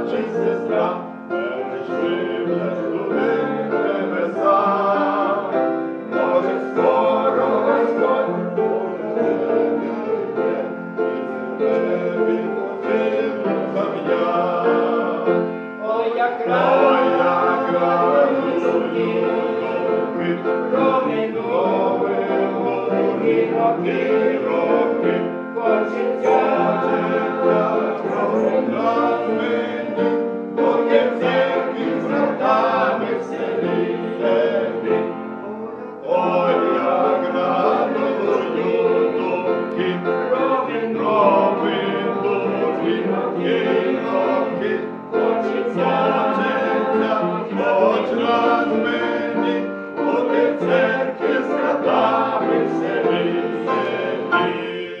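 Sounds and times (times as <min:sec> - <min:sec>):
men singing together: 0:00.0 - 0:55.0.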